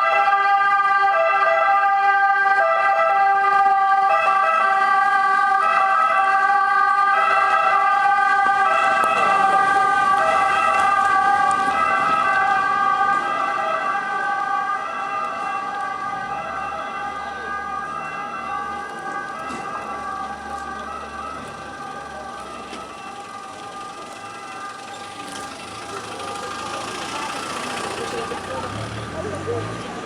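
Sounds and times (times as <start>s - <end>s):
two-tone emergency siren: 0.0s - 30.0s.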